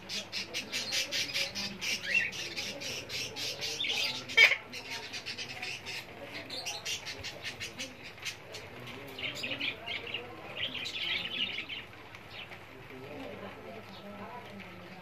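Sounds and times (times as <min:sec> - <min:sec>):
parakeets chirping and chattering: 0:00.0 - 0:15.0.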